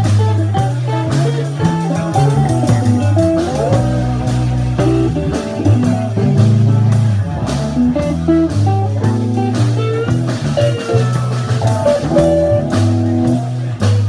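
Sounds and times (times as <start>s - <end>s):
bass line: 0.0s - 14.0s
drums: 0.0s - 14.0s
electric guitars: 0.0s - 14.0s.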